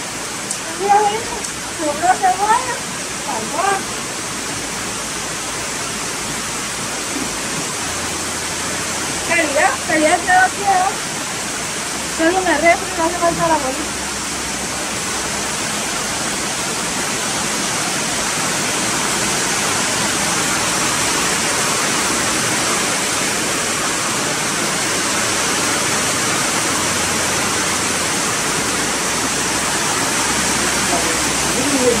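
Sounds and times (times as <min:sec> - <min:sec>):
steady rushing hiss: 0:00.0 - 0:32.0.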